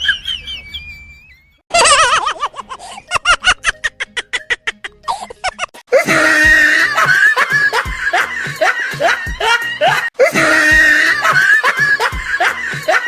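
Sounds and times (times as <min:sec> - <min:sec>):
bursts of laughter: 0:00.0 - 0:13.0.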